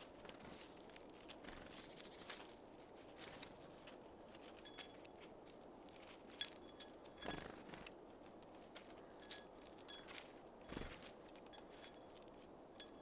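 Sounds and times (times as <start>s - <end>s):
birds tapping and pecking: 0.0s - 13.0s.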